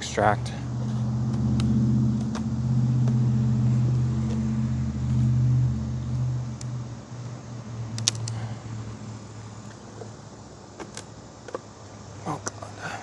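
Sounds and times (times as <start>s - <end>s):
bees buzzing: 0.0s - 12.8s.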